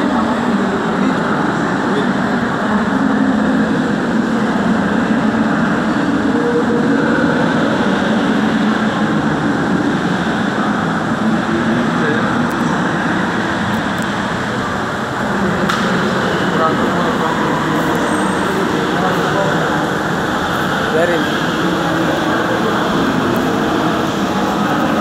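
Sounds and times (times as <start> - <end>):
steady rumbling noise: 0.0 - 25.0.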